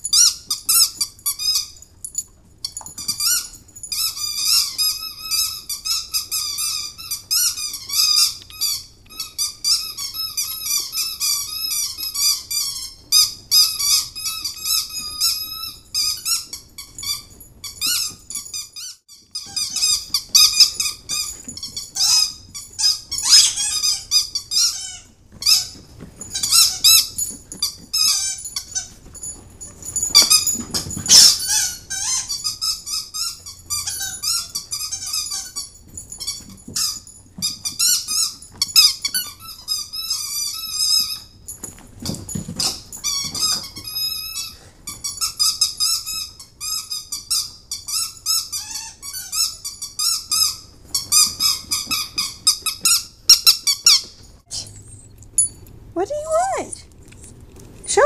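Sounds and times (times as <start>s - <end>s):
squeaky dog toys squeaking: 0.0s - 1.8s, 2.6s - 58.0s.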